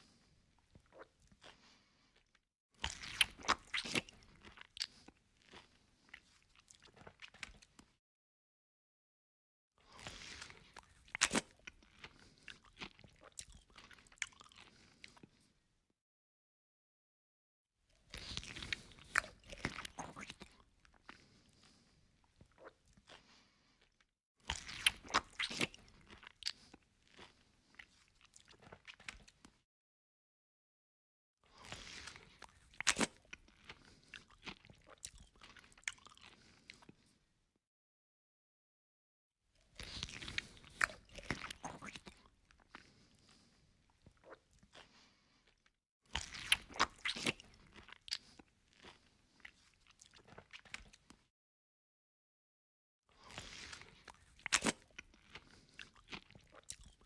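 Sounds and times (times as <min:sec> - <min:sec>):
person chewing and crunching food: 0:00.0 - 0:08.0, 0:09.8 - 0:15.6, 0:17.9 - 0:29.6, 0:31.4 - 0:37.3, 0:39.6 - 0:51.3, 0:53.1 - 0:57.0.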